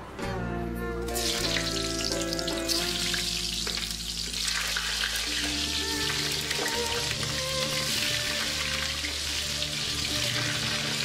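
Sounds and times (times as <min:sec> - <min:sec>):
oil sizzling and spitting: 0:01.1 - 0:11.0.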